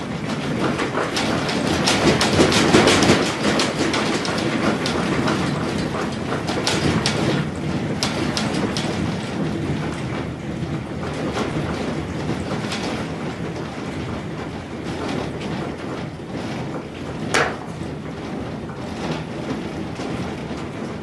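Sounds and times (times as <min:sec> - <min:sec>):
rattling and clattering: 0:00.0 - 0:21.0.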